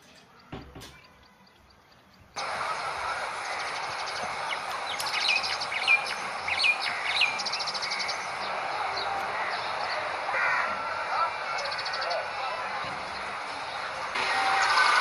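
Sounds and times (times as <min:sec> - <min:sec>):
starlings chirping: 0:00.2 - 0:14.2
steady background hiss: 0:02.4 - 0:15.0.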